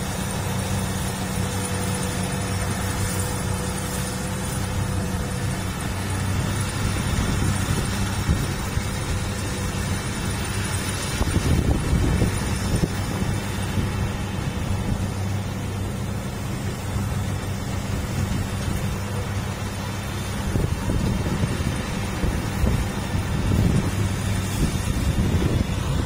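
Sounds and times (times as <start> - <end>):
combine harvester diesel engine: 0.0 - 26.0.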